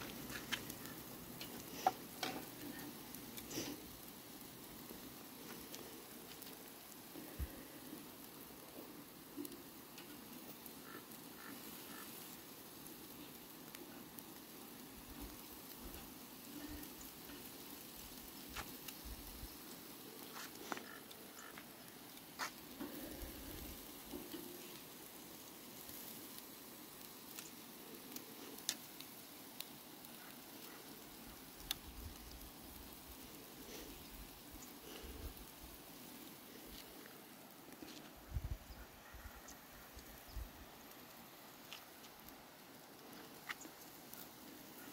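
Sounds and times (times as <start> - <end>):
crackles and pops: 0.0 - 44.9
steaks sizzling on grill: 0.0 - 44.9.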